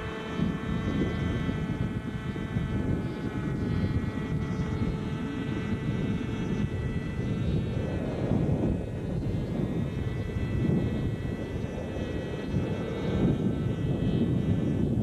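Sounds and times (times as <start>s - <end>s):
model helicopter engine: 0.0s - 15.0s.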